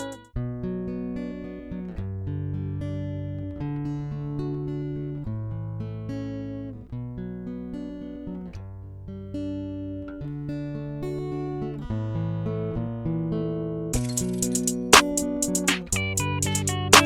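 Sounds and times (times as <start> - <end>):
acoustic guitar picked chords: 0.0 - 17.0.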